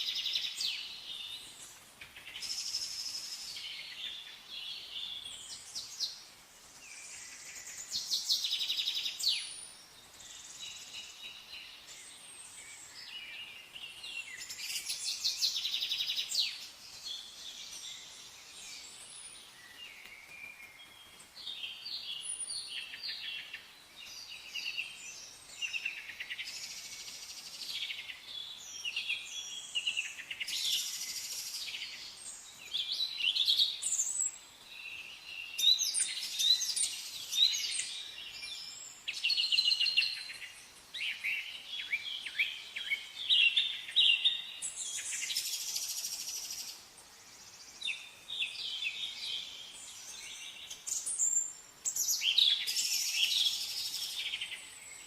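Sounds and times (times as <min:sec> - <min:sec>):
faint background hiss: 0:00.0 - 0:55.0
songbirds chirping and trilling: 0:00.0 - 0:55.0.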